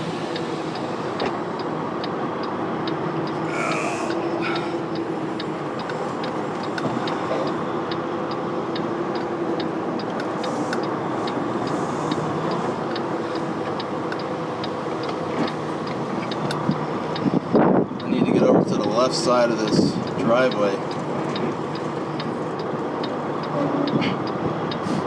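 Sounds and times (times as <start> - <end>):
diesel truck engine running: 0.0 - 25.0
light regular ticking: 0.3 - 23.6.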